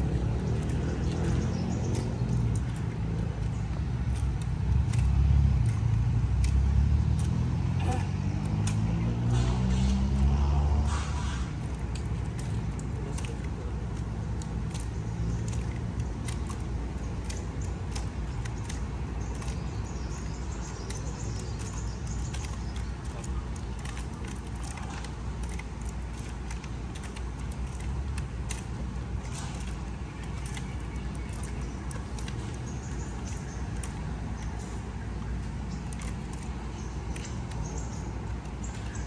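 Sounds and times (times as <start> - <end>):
vehicle passing by: 0.0 - 36.4
light clicks and taps: 0.0 - 39.0
low traffic rumble: 0.0 - 39.0.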